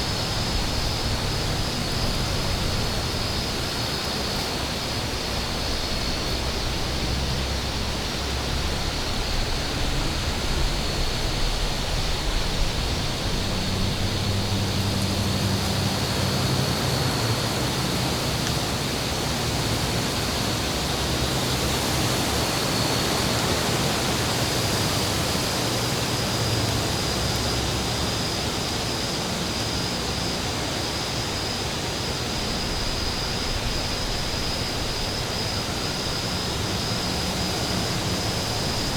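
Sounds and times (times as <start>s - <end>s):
rushing wind: 0.0s - 38.9s.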